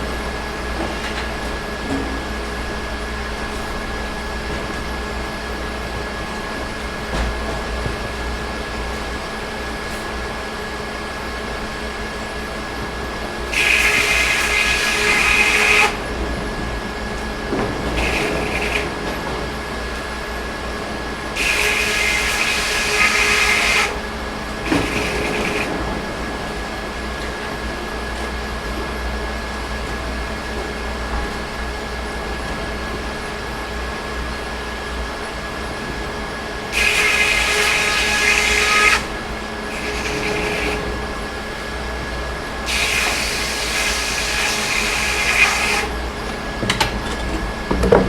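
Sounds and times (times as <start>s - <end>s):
sawmill machinery running: 0.0s - 48.0s.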